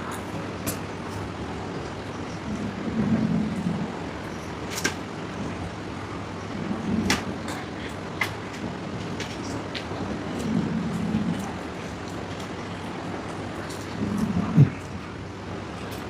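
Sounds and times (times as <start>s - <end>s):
steady background rumble: 0.0s - 16.0s.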